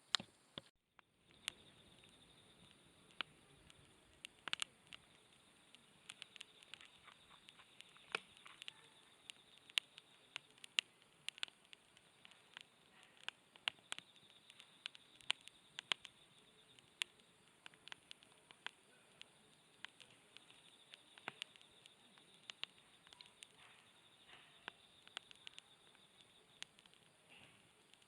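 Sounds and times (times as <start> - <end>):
campfire crackling and popping: 0.0 - 28.0
faint hiss: 0.0 - 28.0.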